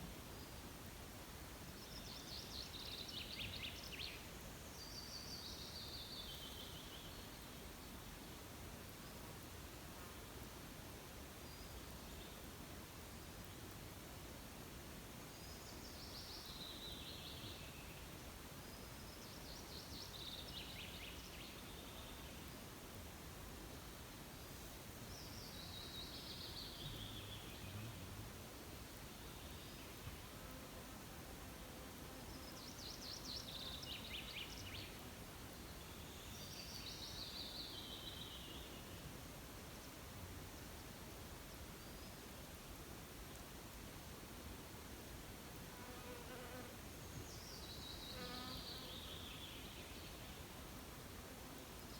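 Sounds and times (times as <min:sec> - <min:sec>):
faint outdoor hiss: 0:00.0 - 0:51.9.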